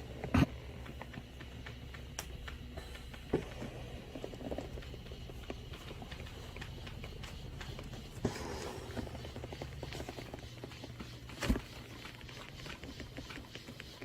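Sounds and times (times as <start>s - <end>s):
massage machine motor hum: 0.0s - 14.0s.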